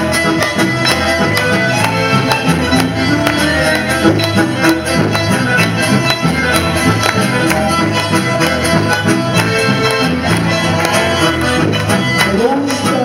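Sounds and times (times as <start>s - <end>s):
acoustic guitars: 0.0s - 13.0s
bandoneon: 0.0s - 13.0s
bass guitar: 0.0s - 13.0s
button accordion: 0.0s - 13.0s
steady beat: 0.0s - 13.0s.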